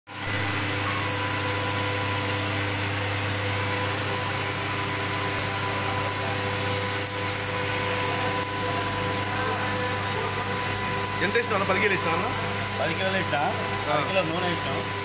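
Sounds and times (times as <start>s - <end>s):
machinery motor hum: 0.1s - 15.0s
machinery whining tones: 0.1s - 15.0s.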